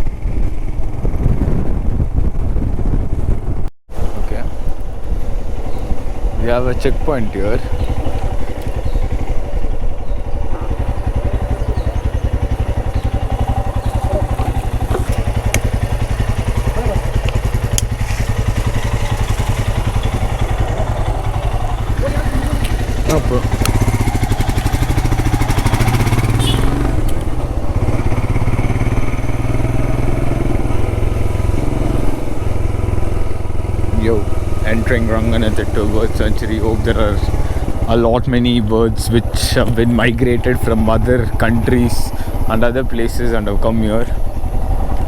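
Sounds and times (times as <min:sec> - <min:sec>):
engine idling: 0:04.6 - 0:45.0.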